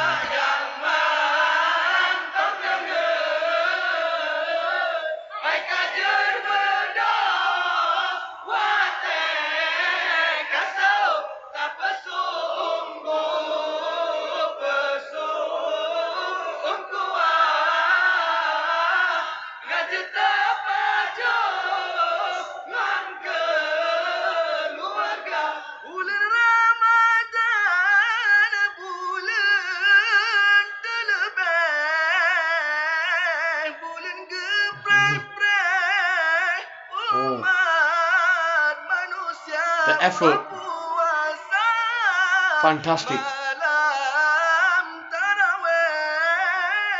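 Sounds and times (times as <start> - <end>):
men singing into a microphone: 0.0 - 46.9.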